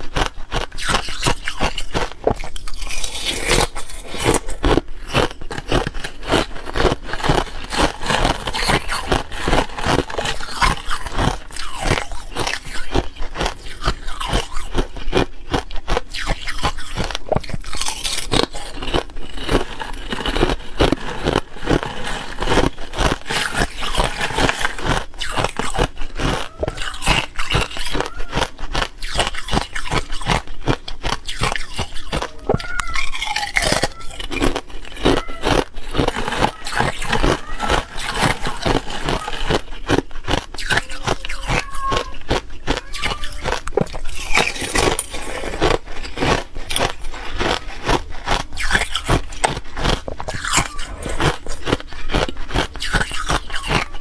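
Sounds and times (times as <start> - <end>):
ice crunching and crackling: 0.0 - 54.0.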